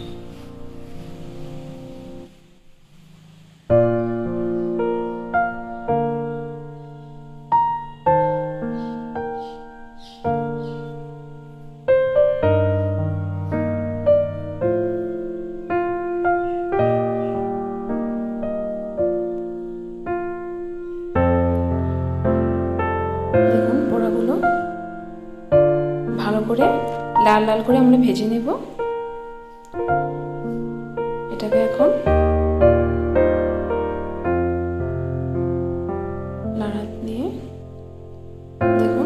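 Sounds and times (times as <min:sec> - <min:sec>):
slow piano music: 0:00.0 - 0:39.0.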